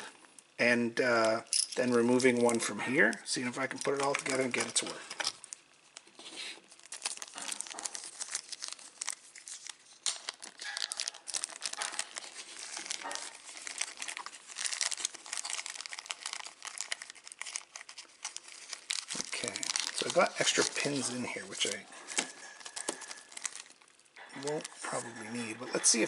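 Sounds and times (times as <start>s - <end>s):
plastic bag crinkling: 3.4s - 25.2s.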